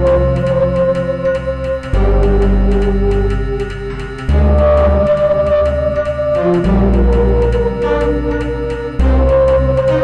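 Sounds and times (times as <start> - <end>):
low synth notes: 0.0 - 10.0
ticking beat: 0.0 - 10.0.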